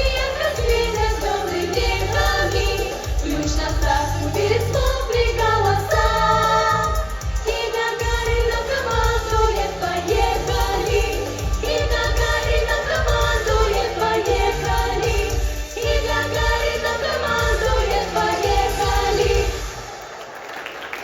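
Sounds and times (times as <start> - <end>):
backing track with bass beat: 0.0 - 19.9
children singing pop song: 0.0 - 20.0.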